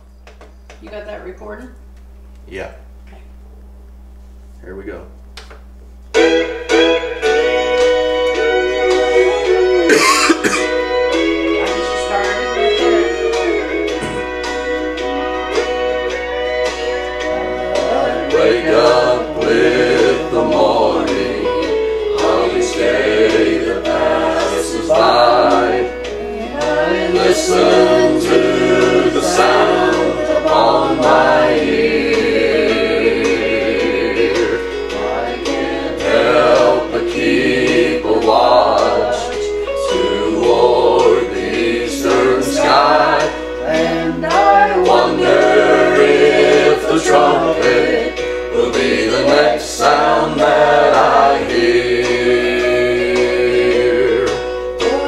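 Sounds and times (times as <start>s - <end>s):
instrumental accompaniment: 6.1s - 55.0s
vocal quartet singing in harmony: 6.2s - 55.0s.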